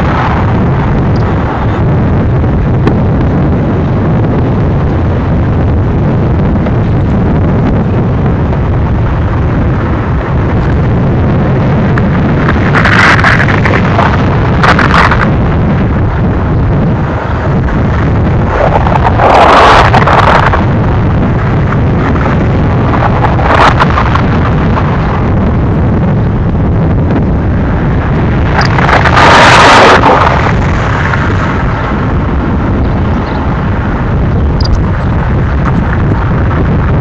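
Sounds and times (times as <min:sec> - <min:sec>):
freight train rumbling on rails: 0:00.0 - 0:37.0.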